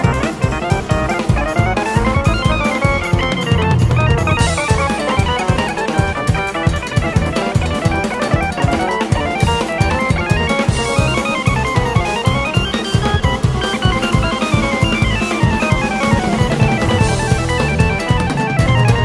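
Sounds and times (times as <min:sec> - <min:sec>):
band with drum kit: 0:00.0 - 0:19.0
jazz-funk synthesizer solo: 0:00.0 - 0:19.0.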